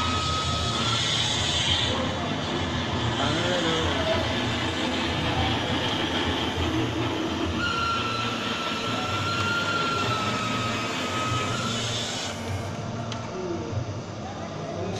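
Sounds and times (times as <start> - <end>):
high squeal: 0.0 - 13.0
model train running on track: 0.0 - 14.9.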